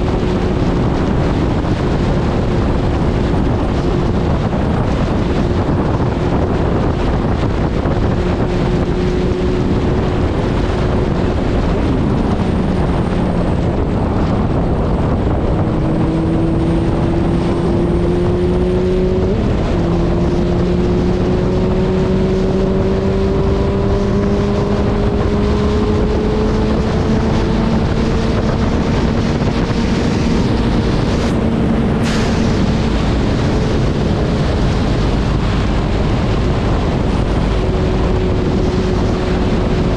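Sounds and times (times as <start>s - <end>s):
motorcycle engine at speed: 0.0s - 39.9s
wind noise on microphone: 0.0s - 39.9s.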